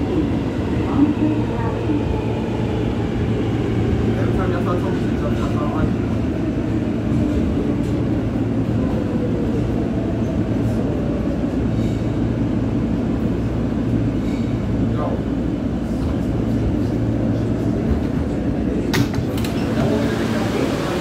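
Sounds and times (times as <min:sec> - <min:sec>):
subway wheels rumbling on rail: 0:00.0 - 0:21.0.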